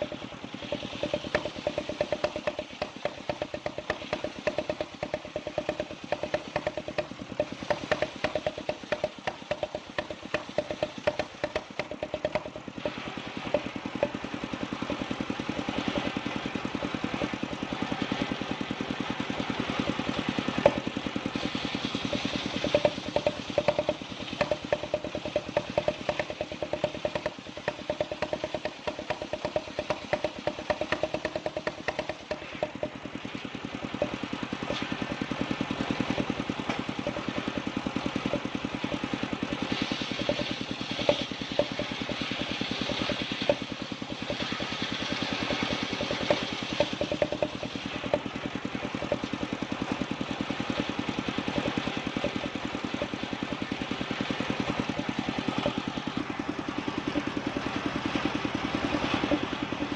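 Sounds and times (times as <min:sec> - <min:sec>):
hiss: 0:00.0 - 0:59.9
sawing machine engine running: 0:00.0 - 0:59.9.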